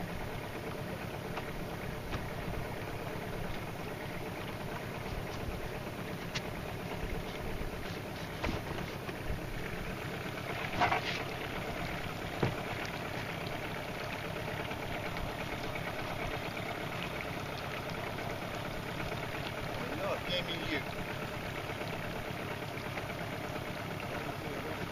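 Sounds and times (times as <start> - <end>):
outboard motor idling: 0.0 - 24.9
water noise: 0.0 - 24.9
wind: 0.0 - 24.9.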